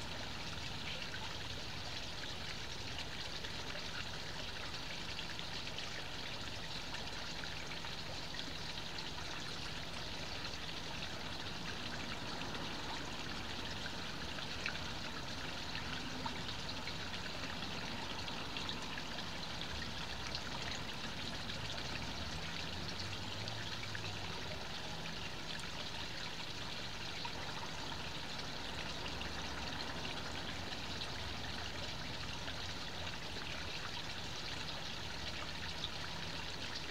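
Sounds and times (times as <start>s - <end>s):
water pouring into pond: 0.0s - 36.9s.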